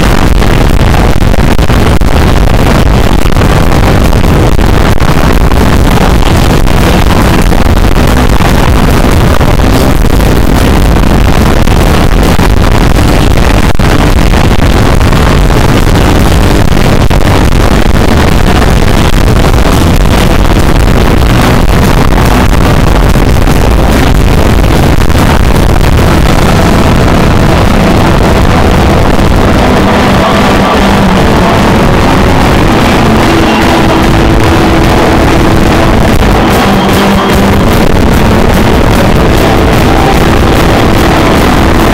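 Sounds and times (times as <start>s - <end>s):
distorted live band: 0.0s - 41.9s.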